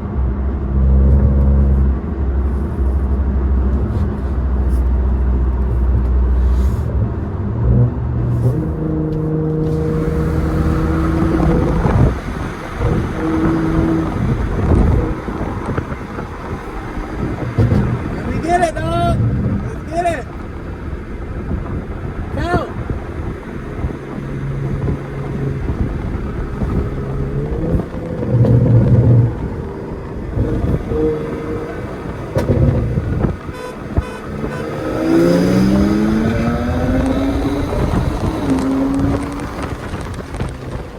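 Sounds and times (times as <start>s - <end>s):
car engine droning: 0.0s - 40.9s.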